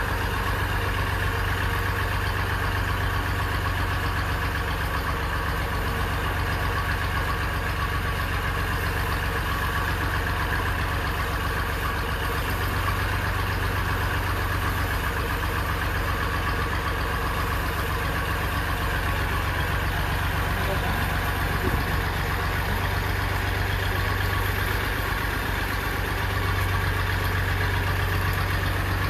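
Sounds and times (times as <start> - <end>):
drilling rig engine running: 0.0 - 29.0.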